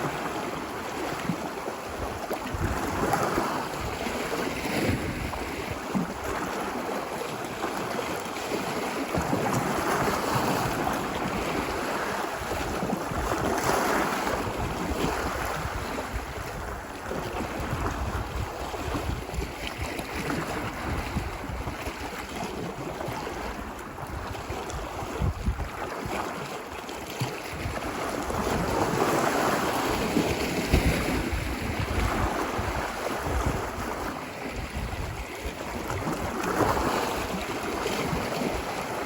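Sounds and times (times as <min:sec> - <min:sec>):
ocean surf washing ashore: 0:00.0 - 0:39.0
wind rumble on microphone: 0:00.0 - 0:39.0.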